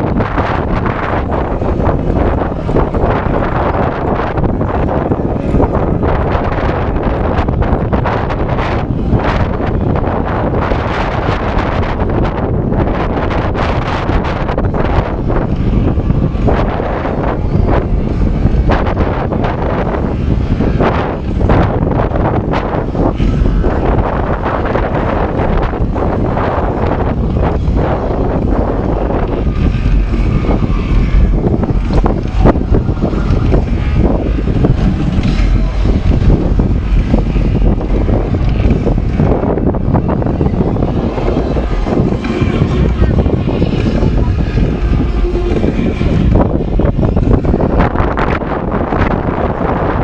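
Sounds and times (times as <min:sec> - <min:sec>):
boat engines rumbling: 0:00.0 - 0:50.0
wind buffeting microphone: 0:00.0 - 0:50.0.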